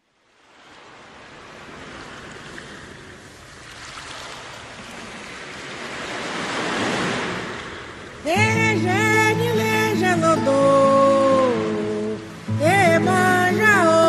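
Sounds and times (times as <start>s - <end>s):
sea waves washing on shore: 0.2s - 14.0s.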